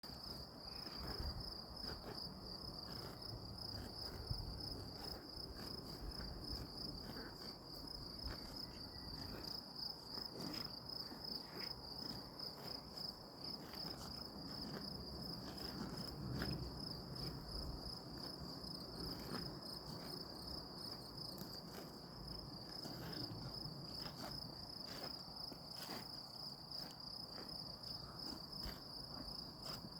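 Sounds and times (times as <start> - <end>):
crickets chirring: 0.1 - 29.9.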